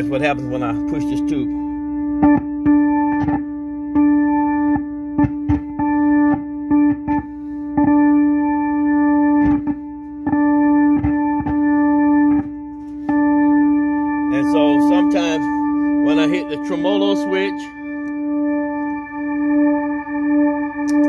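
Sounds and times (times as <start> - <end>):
held organ note: 0.0 - 21.0
speaker crackling with sharp pops: 0.0 - 21.0.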